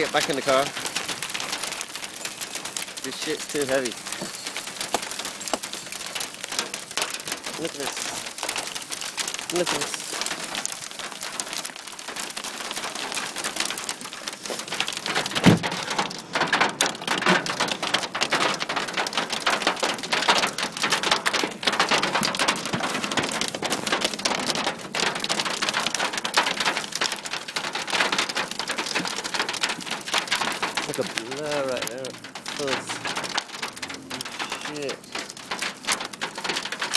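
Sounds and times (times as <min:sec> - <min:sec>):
hail pelting car roof: 0:00.0 - 0:36.9.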